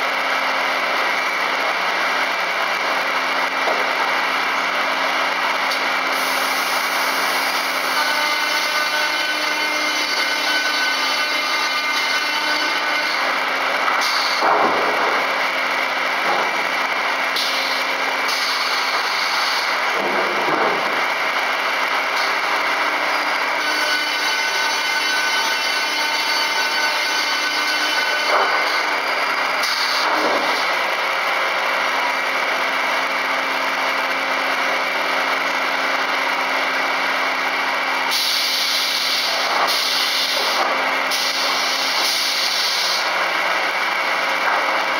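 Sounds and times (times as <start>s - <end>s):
circular saw running: 0.0s - 44.9s.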